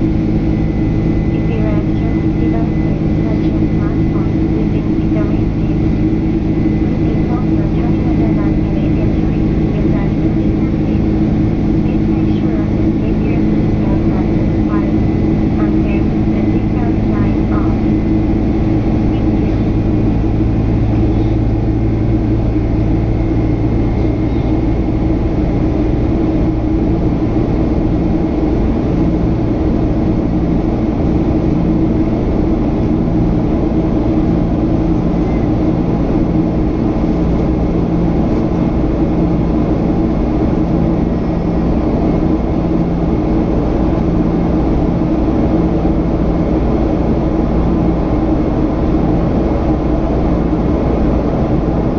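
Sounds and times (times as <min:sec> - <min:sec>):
airplane cabin drone: 0:00.0 - 0:51.9
low pulsing tone: 0:00.0 - 0:51.9.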